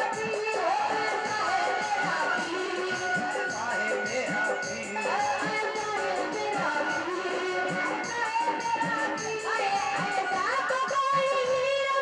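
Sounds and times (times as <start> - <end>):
tabla rhythm: 0.0 - 12.0
voices singing: 0.0 - 12.0.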